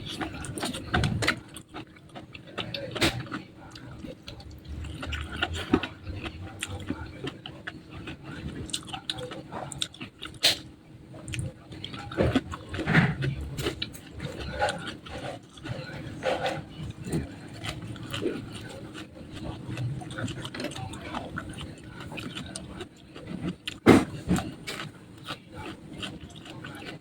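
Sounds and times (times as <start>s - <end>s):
person chewing with wet mouth sounds: 0.0s - 27.0s.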